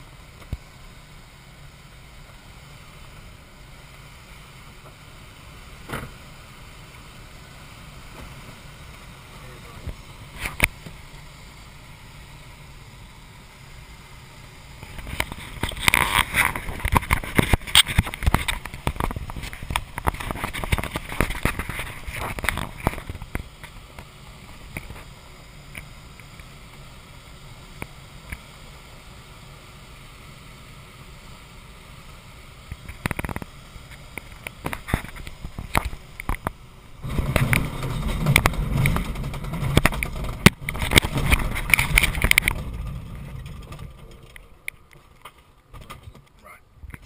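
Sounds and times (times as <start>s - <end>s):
air rushing in cockpit: 0.0s - 45.7s
wheel rumbling over grass: 1.6s - 29.6s, 31.6s - 47.0s.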